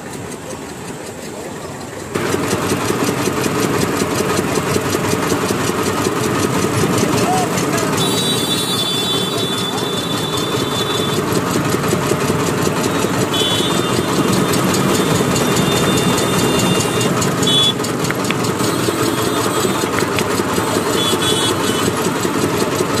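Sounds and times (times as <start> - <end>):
juice crusher machine running: 0.0 - 23.0.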